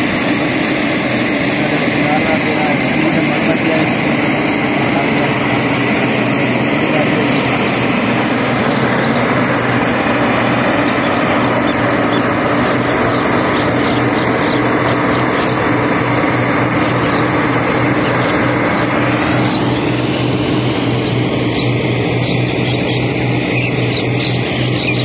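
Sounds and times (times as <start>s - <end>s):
combine harvester engine hum: 0.0s - 25.0s.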